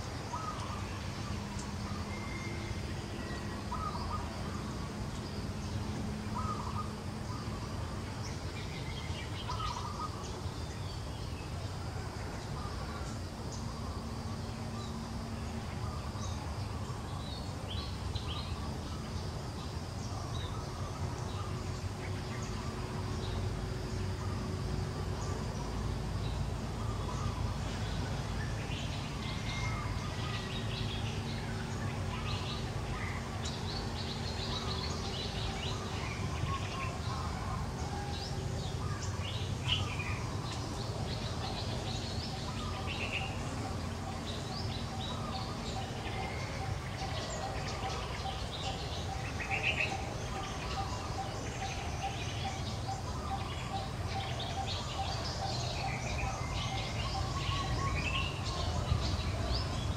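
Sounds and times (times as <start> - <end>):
low outdoor rumble: 0.0 - 59.9
small birds chirping: 0.0 - 59.9.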